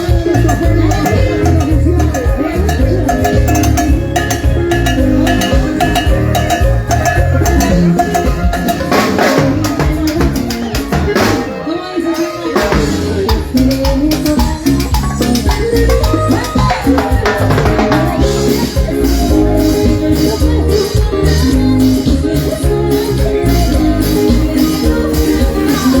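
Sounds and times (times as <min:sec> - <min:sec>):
salsa dance music: 0:00.0 - 0:26.0.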